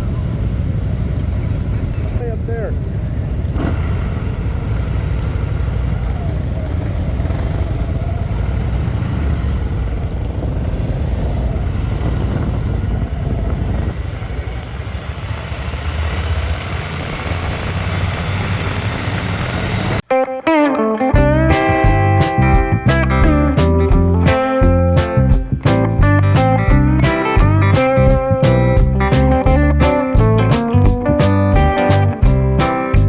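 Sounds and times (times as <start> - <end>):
motorcycle engine rumbling: 0.0 - 19.4, 21.2 - 33.0.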